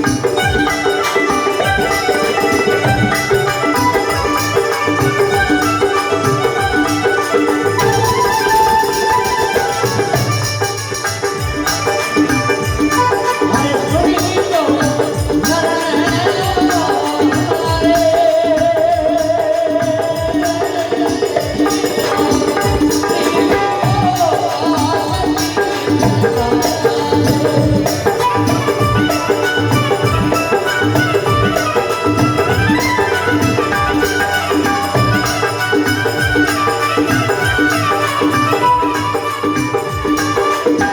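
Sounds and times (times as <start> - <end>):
drum strokes: 0.0 - 40.9.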